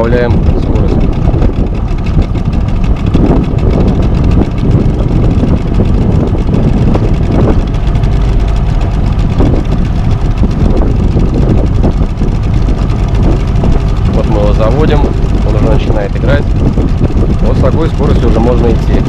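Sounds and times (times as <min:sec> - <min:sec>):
boat motor running: 0:00.0 - 0:19.0
wind buffeting microphone: 0:00.0 - 0:19.0.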